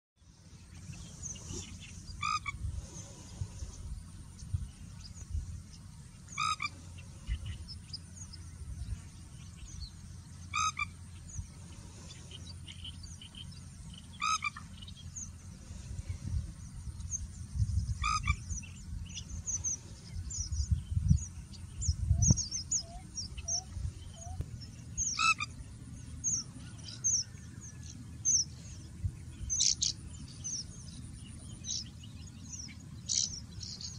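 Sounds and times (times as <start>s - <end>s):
low steady rumble: 0.2s - 33.9s
bird calling: 0.6s - 3.9s, 4.8s - 17.2s, 17.8s - 33.9s.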